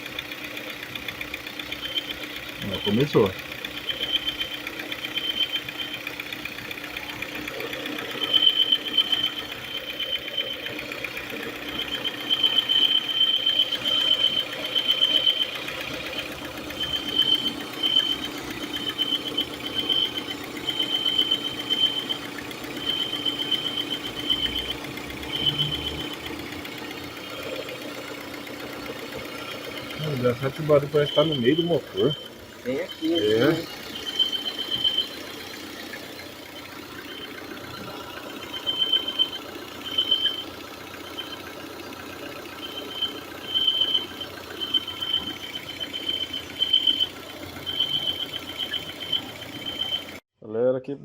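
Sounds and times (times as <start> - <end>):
car engine idling: 0.0 - 50.2
high-pitched squeal: 7.0 - 50.2.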